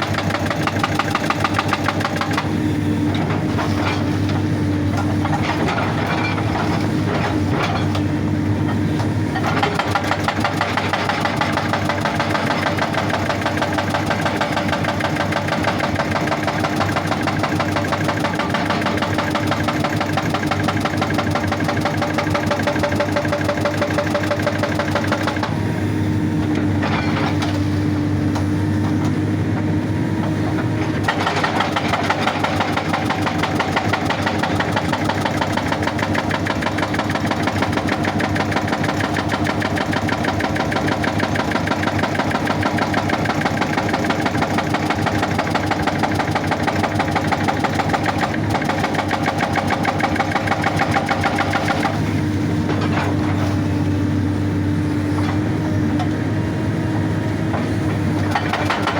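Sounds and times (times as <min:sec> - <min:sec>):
hydraulic breaker hammering stone: 0:00.0 - 0:08.2, 0:09.3 - 0:25.6, 0:30.3 - 0:53.6, 0:57.6 - 0:58.9
diesel engine running: 0:00.0 - 0:58.9.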